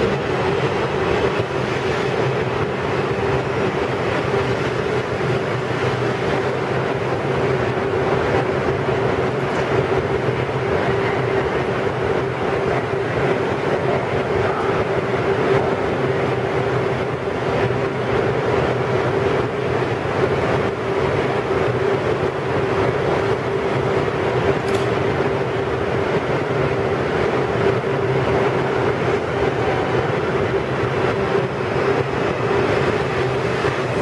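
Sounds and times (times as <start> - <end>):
subway train equipment humming: 0.0 - 34.0.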